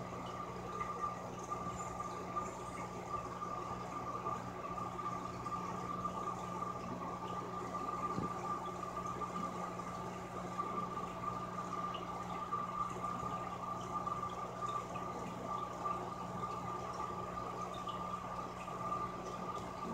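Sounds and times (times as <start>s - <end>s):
aquarium equipment humming: 0.0s - 19.9s
bubbling water: 0.0s - 19.9s.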